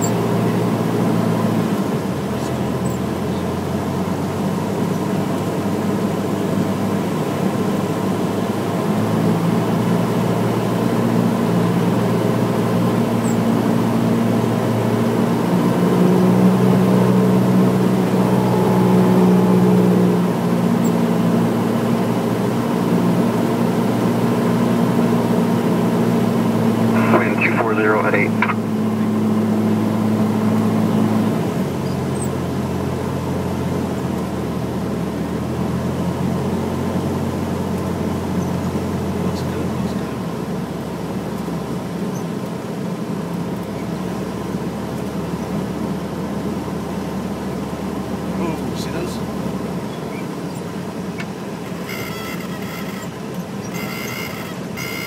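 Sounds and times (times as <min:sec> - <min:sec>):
propeller aircraft engine droning: 0:00.0 - 0:55.0.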